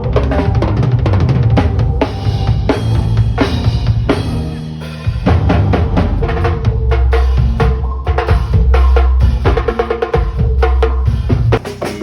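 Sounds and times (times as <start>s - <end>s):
low bass notes: 0.0s - 11.6s
drum kit playing: 0.0s - 12.0s.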